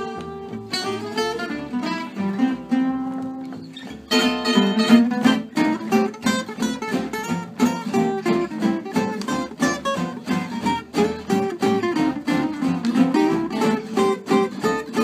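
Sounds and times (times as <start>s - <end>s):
double bass: 0.0s - 15.0s
gypsy jazz guitars playing swing: 0.0s - 15.0s.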